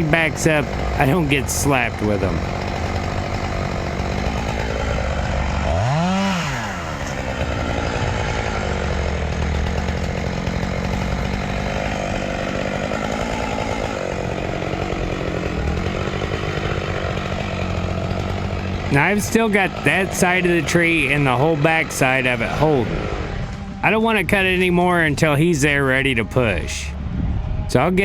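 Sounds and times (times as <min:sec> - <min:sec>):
chainsaw running: 0:00.0 - 0:28.0.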